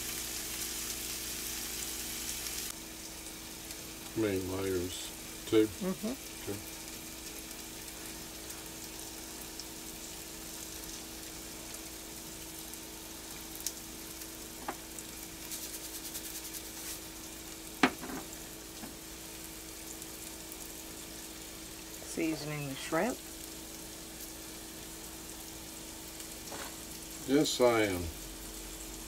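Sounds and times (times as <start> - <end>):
faint steady hum: 0.0 - 29.0
vegetables sizzling in a frying pan: 0.0 - 29.0.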